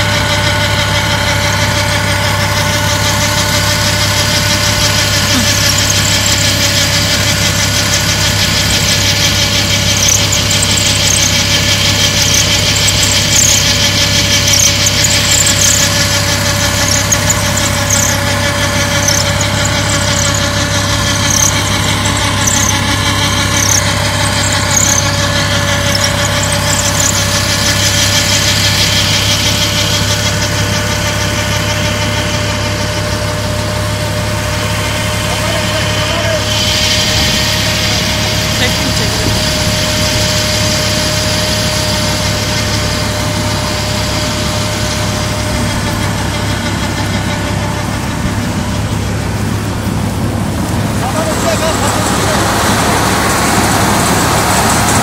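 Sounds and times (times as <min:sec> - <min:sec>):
short high-pitched squeaks: 0:00.0 - 0:47.8
tractor engine running: 0:00.0 - 0:55.0.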